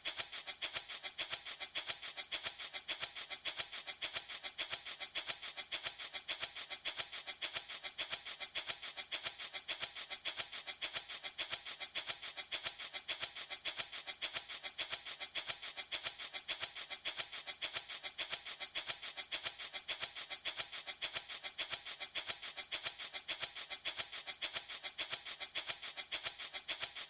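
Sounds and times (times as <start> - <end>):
wooden baby rattle shaken: 0.0 - 27.0.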